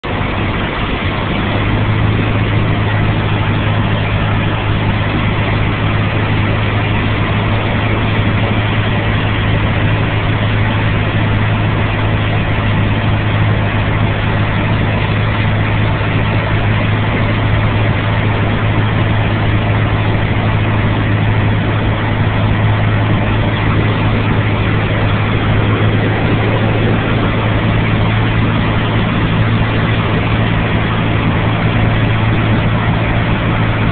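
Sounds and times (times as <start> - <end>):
light aircraft engine droning: 0.0 - 33.9.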